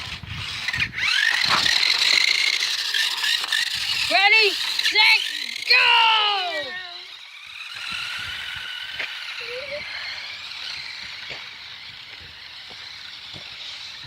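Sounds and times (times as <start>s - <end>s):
rc car motor whining: 0.0s - 14.0s.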